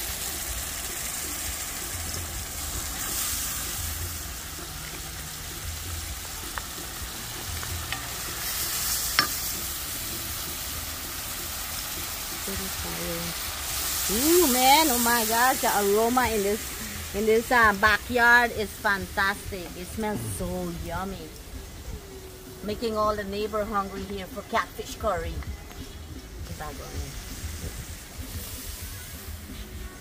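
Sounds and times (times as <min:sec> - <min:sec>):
curry paste sizzling in oil: 0:00.0 - 0:30.0.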